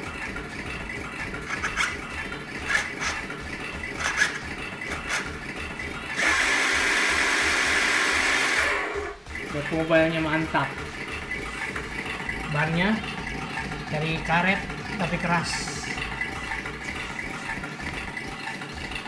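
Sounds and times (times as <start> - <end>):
plastic gears clicking and rattling: 0.0 - 8.6, 9.2 - 19.0.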